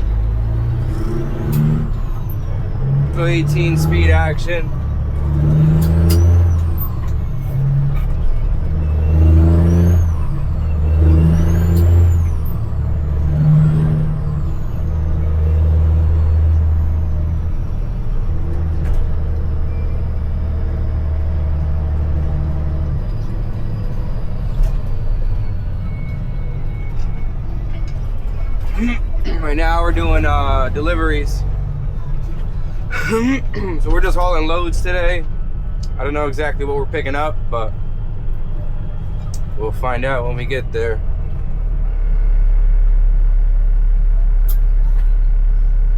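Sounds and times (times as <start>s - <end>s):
diesel truck engine shifting gears: 0.0s - 45.9s.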